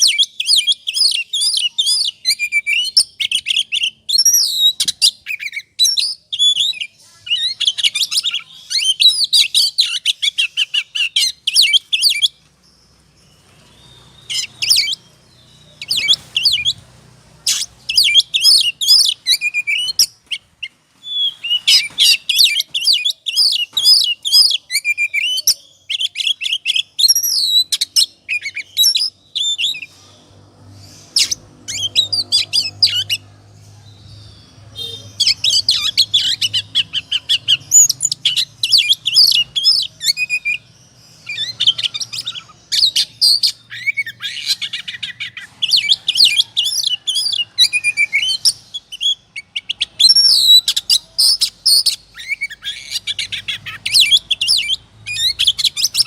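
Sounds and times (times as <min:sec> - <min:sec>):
songbird chirping and whistling: 0:00.0 - 0:33.2, 0:34.2 - 0:56.0.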